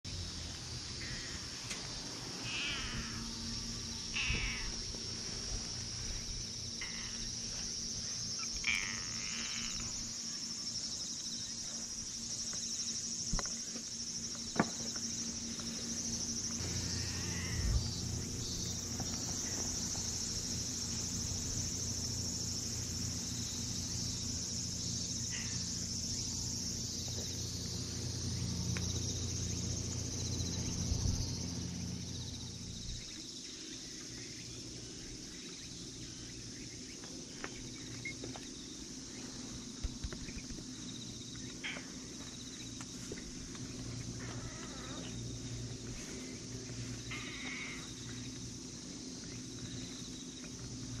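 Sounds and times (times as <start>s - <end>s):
crickets chirping: 0.0s - 51.0s.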